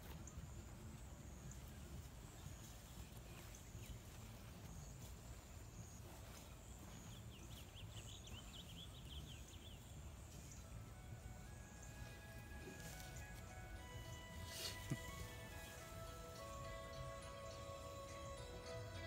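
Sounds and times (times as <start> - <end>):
bird chirping: 0.1 - 19.0.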